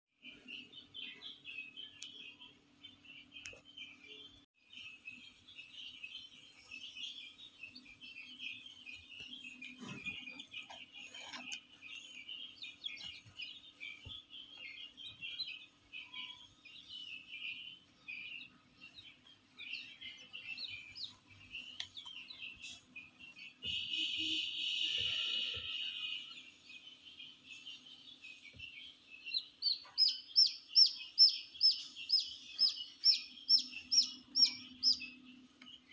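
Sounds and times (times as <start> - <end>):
chicks peeping: 0.2 - 35.9.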